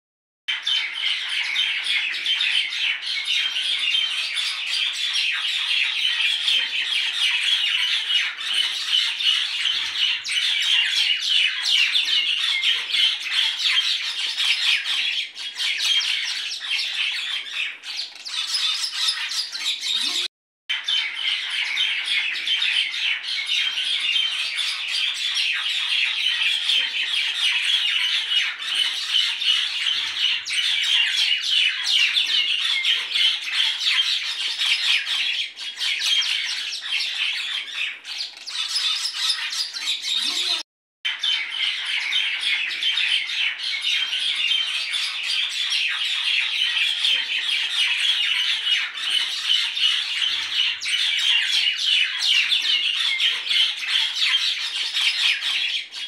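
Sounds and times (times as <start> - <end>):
flock of birds chattering: 0.5 - 56.0.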